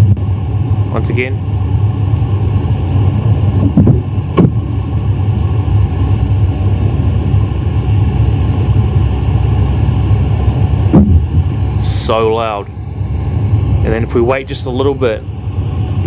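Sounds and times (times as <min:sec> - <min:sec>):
low rumbling hum: 0:00.0 - 0:16.0.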